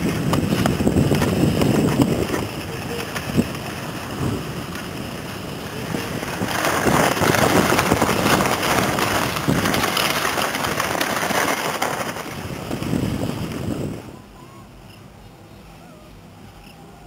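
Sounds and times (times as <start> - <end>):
skis scraping over snow: 0.0 - 14.1
wind buffeting microphone: 0.0 - 14.4.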